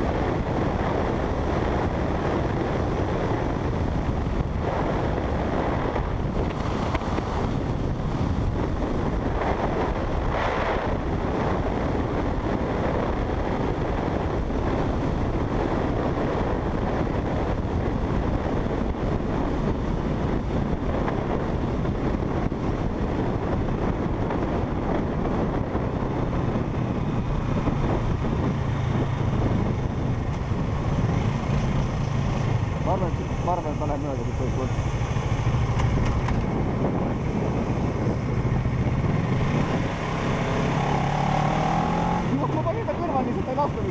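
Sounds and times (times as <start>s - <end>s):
motorcycle engine hum: 0.0s - 43.9s
road noise: 0.0s - 43.9s
wind rushing over microphone: 0.0s - 43.9s.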